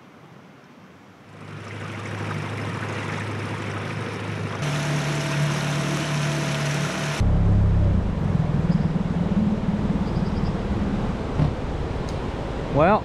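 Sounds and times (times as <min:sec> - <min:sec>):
wind: 0:00.0 - 0:13.0
water rushing: 0:01.3 - 0:13.0
outboard motor humming: 0:01.4 - 0:12.4.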